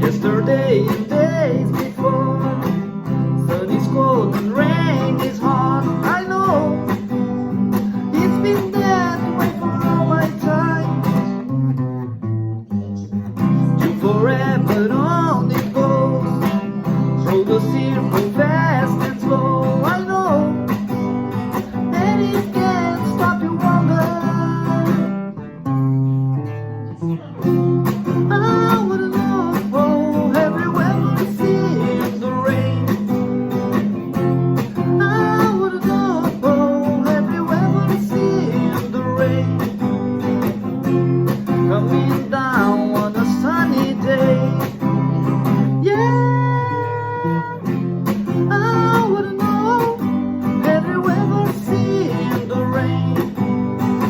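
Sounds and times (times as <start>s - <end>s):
strummed guitar music: 0.0s - 54.0s.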